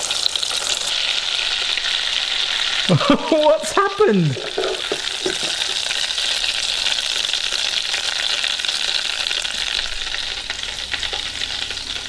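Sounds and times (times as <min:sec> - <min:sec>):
oil sizzling in deep fryer: 0:00.0 - 0:12.0.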